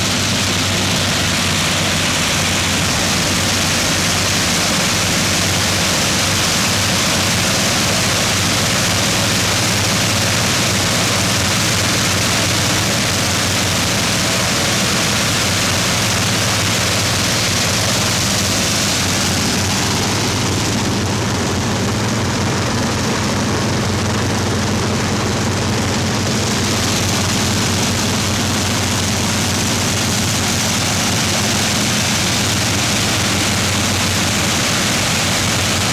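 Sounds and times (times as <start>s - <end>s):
deep engine drone: 0.0s - 35.9s
rushing air from propeller: 0.0s - 35.9s.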